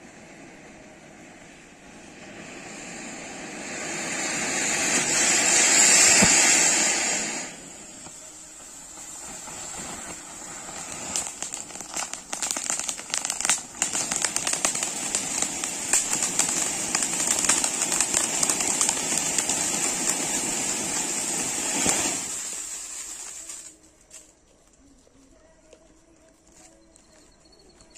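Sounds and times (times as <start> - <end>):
fountain fireworks hissing: 0.0 - 23.8
fireworks crackling: 0.0 - 24.3.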